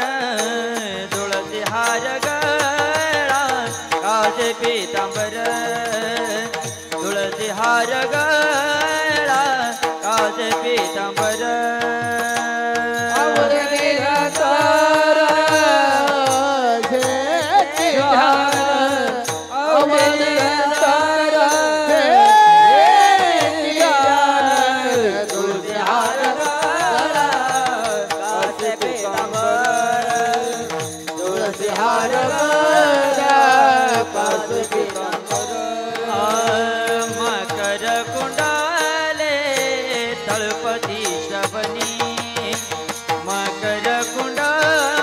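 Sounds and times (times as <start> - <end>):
man singing devotional song: 0.0 - 45.0
tabla beats: 0.0 - 45.0.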